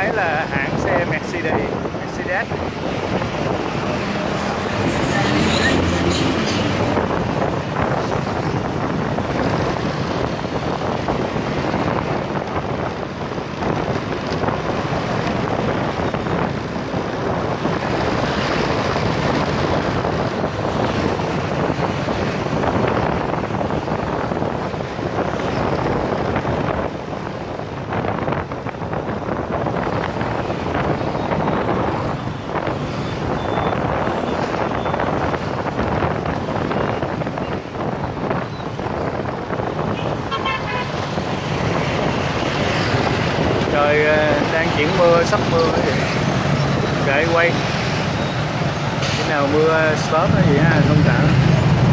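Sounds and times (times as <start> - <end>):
motorbike and scooter engines: 0.0 - 51.9
wind rush on microphone: 0.0 - 51.9.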